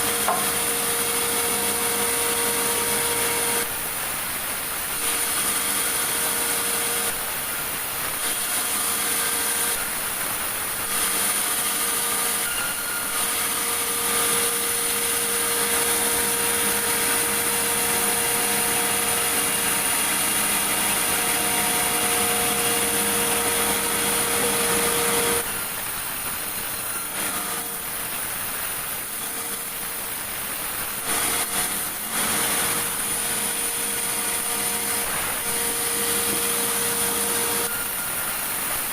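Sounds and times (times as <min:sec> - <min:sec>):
sawmill saw cutting timber: 0:00.0 - 0:03.8, 0:04.9 - 0:07.4, 0:08.1 - 0:10.1, 0:10.7 - 0:25.8, 0:26.4 - 0:38.7.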